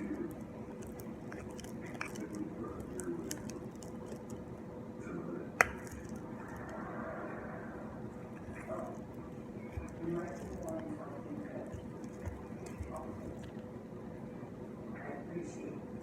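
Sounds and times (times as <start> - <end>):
slime squishing: 0.0 - 4.8, 5.5 - 14.2.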